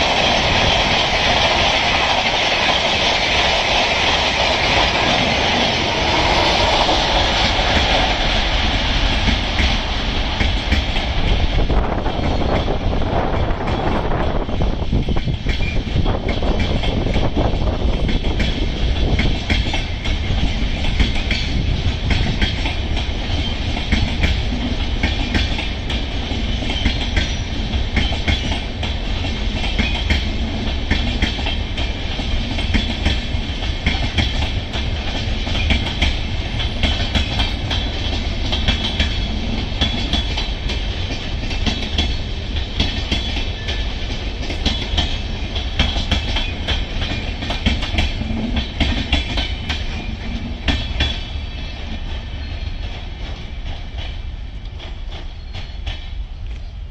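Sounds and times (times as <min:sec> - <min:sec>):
wheels clicking over rail joints: 0:00.0 - 0:56.8
train wheels rumbling on rails: 0:00.0 - 0:56.9.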